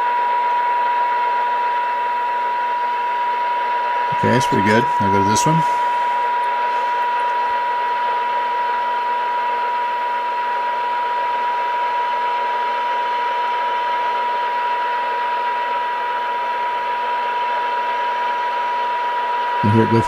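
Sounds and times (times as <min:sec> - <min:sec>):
high test tone from radio: 0:00.0 - 0:20.0.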